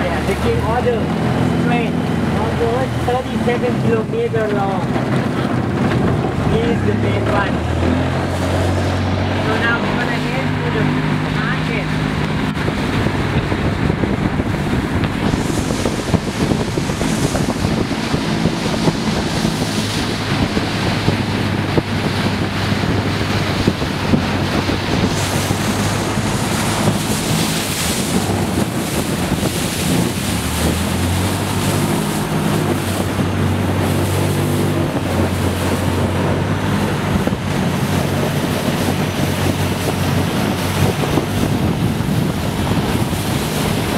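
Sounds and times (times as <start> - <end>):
boat engine running: 0.0 - 43.9
water rushing: 0.0 - 43.9
wind on microphone: 0.0 - 43.9.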